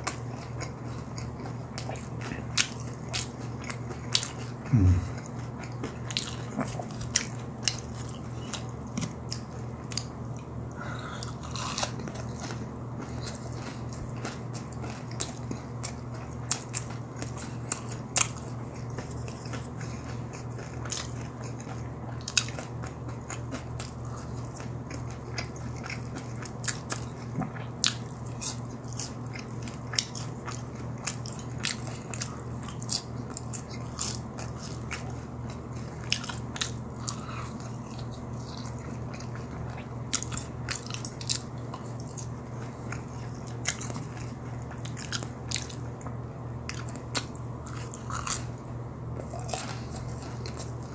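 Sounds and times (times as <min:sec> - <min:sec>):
chewing crispy fried food: 0:00.0 - 0:50.9
steady low hum: 0:00.0 - 0:50.9.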